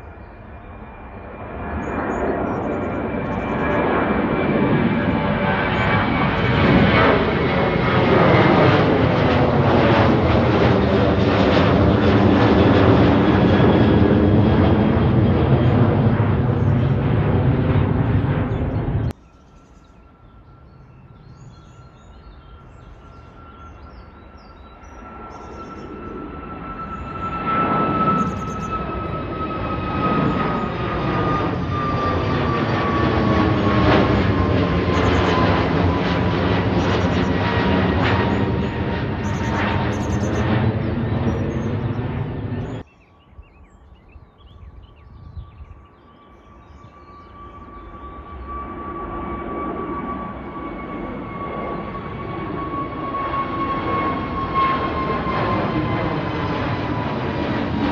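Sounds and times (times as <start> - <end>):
airliner engines at takeoff: 0.0 - 57.9.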